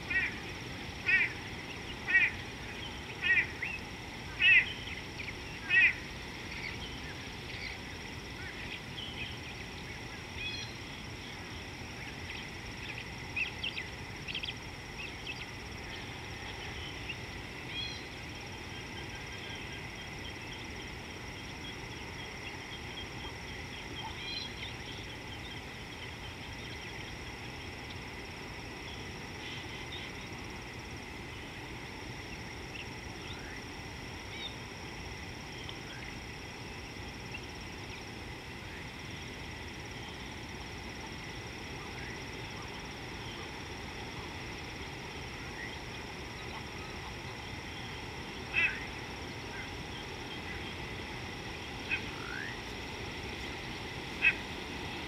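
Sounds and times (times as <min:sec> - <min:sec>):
constant high-pitched tone: 0:00.0 - 0:55.0
steady background hiss: 0:00.0 - 0:55.0.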